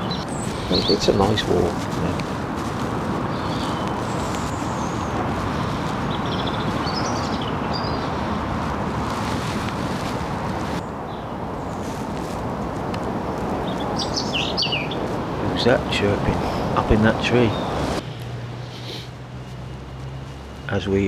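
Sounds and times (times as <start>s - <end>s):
small bird chirping: 0.0s - 20.9s
road traffic: 0.0s - 21.0s
wind: 0.0s - 21.0s.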